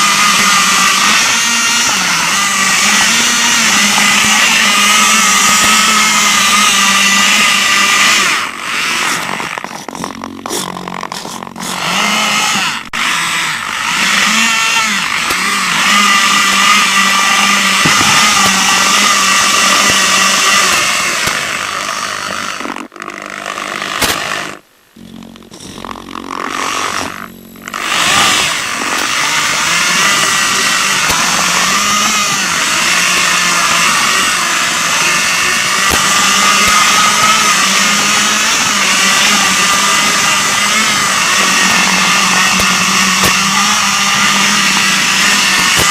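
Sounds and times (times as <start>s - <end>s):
toy rover motors whining: 0.0s - 45.9s.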